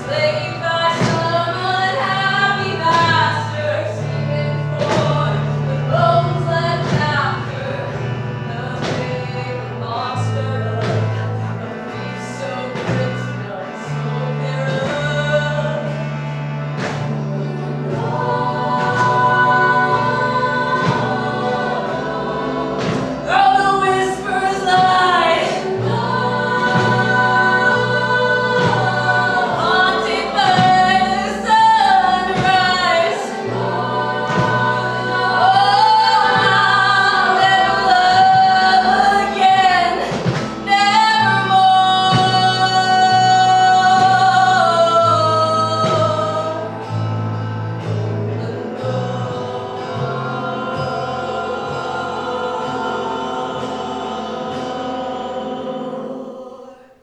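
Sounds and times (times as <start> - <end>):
group singing in harmony: 0.0 - 57.0
low accompaniment: 0.0 - 57.0.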